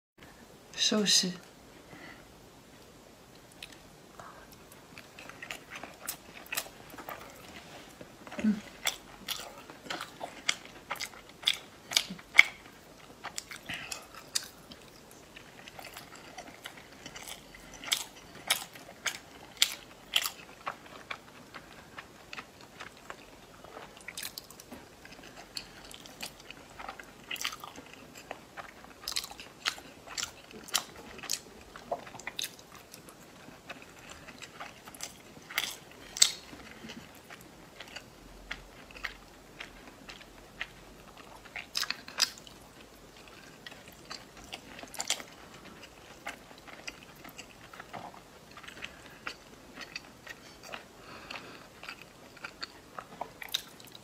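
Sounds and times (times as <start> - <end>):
wet chewing smacks: 5.0 - 54.0.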